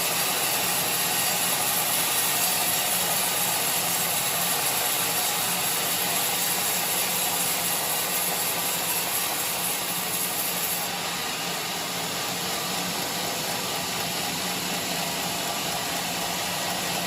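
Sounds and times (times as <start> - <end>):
sawmill machinery hum: 0.0 - 17.0.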